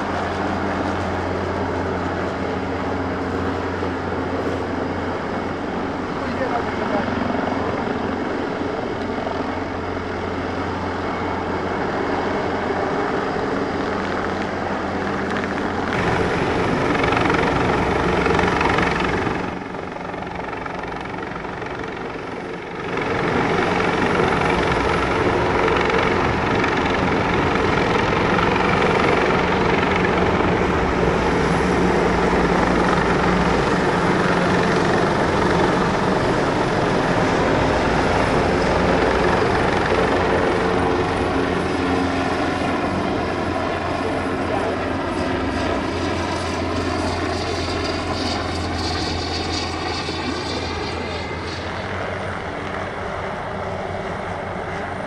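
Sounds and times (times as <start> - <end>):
helicopter rotor and turbine noise: 0.0 - 55.0.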